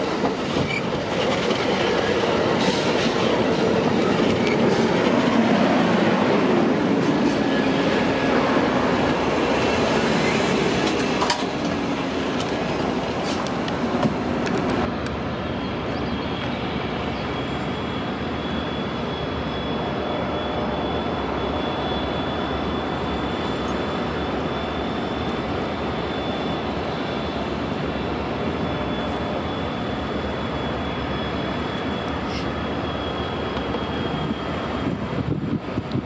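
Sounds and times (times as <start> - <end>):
train rumbling over bridge: 0.0 - 36.0.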